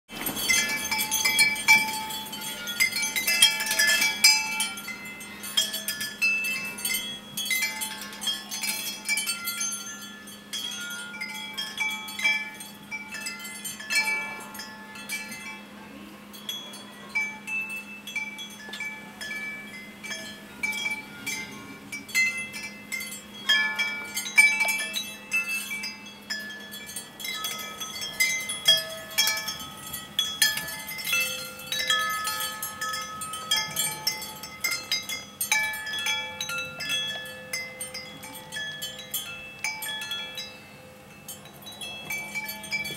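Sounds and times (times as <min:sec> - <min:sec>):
metal tube wind chime ringing: 0:00.1 - 0:42.9.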